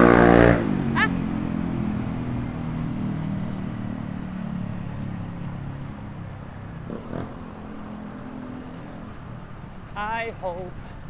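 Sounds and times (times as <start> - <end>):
road and wind noise: 0.0 - 11.0
vehicle engine hum: 0.0 - 11.0.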